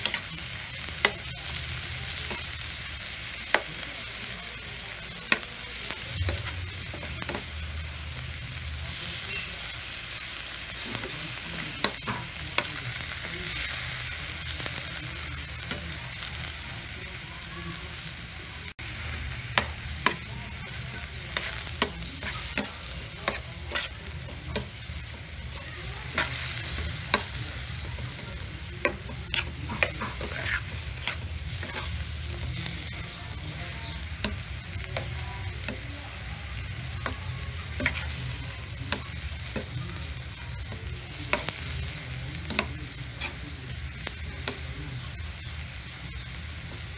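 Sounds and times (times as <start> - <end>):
meat sizzling in a wok: 0.0 - 46.9.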